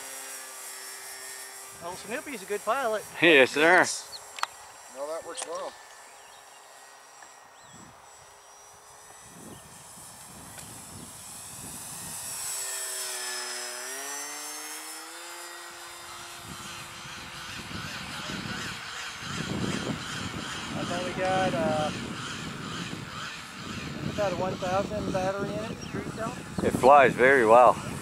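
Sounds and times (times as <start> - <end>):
model plane motor whine: 0.0 - 28.0.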